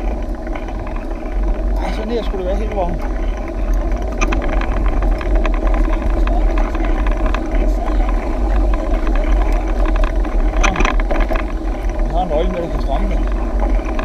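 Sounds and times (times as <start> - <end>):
bike rattles and clicks: 0.0 - 14.0
bike tyre noise on road: 0.0 - 14.0
wind buffeting microphone: 0.0 - 14.0.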